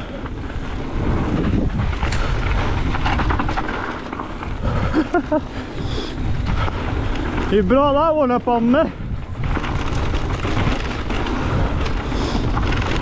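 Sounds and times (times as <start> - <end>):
bike rattling clicks: 0.0 - 13.0
bike tyre noise: 0.0 - 13.0
wind buffeting microphone: 0.0 - 13.0.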